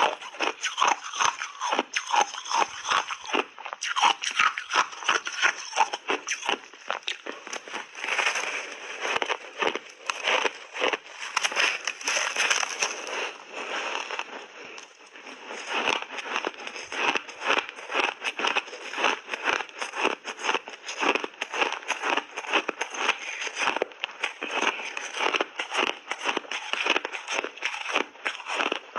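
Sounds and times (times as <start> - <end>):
ice being chewed and crunched: 0.0 - 28.9.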